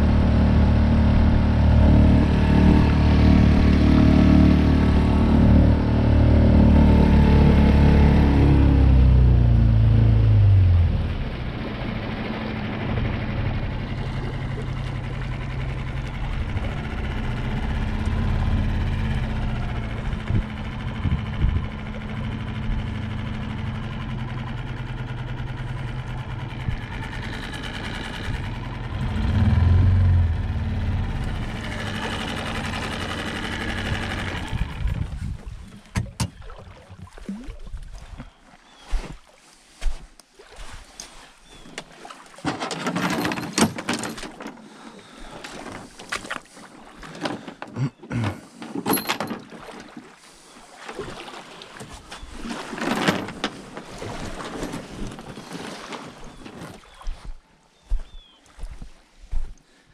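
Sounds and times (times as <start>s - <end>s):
small boat motor running: 0.0s - 39.0s, 40.4s - 59.7s.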